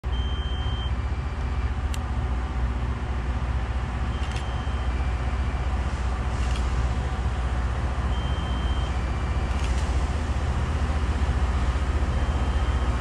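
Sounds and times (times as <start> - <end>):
rail grinder train rumbling: 0.1 - 13.0.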